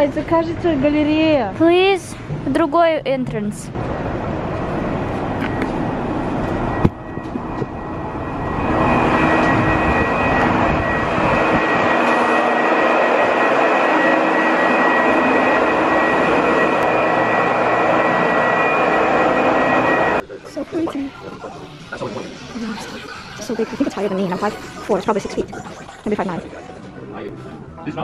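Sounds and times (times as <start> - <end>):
rushing mechanical hum with whine: 0.0 - 28.0.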